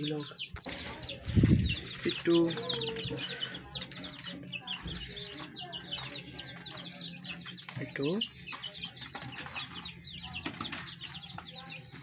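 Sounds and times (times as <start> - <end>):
lovebirds chattering and chirping: 0.0 - 12.0.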